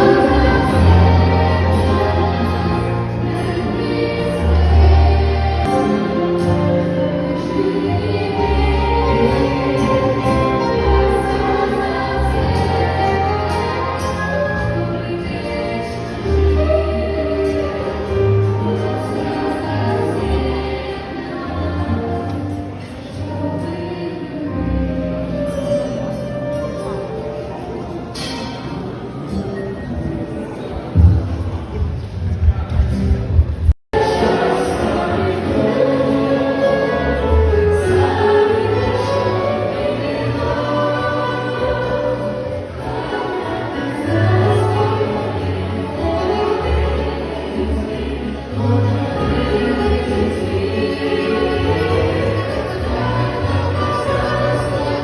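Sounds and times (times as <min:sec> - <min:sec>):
choir singing: 0:00.0 - 0:26.9, 0:33.9 - 0:55.0
low instrumental accompaniment: 0:00.0 - 0:55.0.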